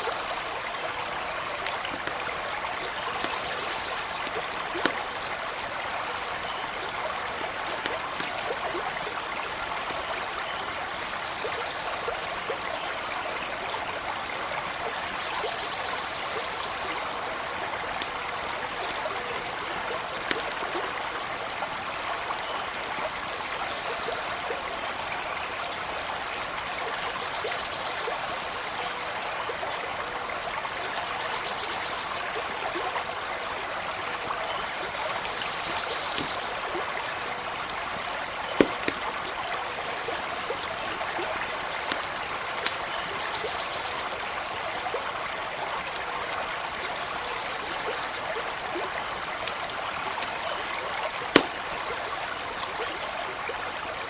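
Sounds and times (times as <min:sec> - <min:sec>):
campfire crackling and popping: 0:00.0 - 0:15.0, 0:16.4 - 0:25.0, 0:28.9 - 0:47.4, 0:48.4 - 0:53.6
creek running over stones: 0:00.0 - 0:54.0.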